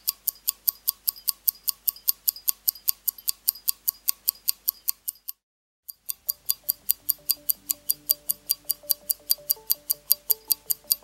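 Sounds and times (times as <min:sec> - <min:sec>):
wristwatch ticking: 0:00.0 - 0:11.0.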